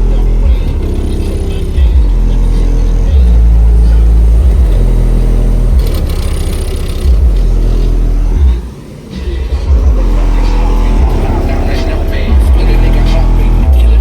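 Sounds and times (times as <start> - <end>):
deep bass notes from subwoofers: 0.0 - 14.0.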